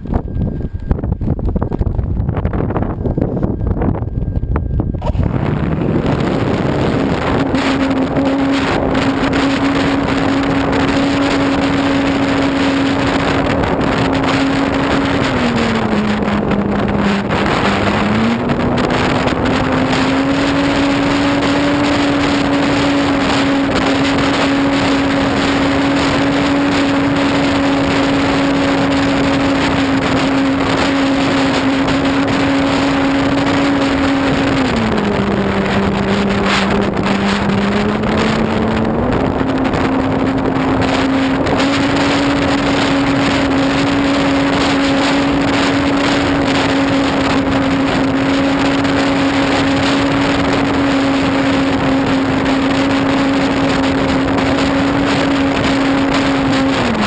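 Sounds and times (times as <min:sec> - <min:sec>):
wind on microphone: 0:00.0 - 0:57.0
model plane motor humming: 0:00.1 - 0:57.0.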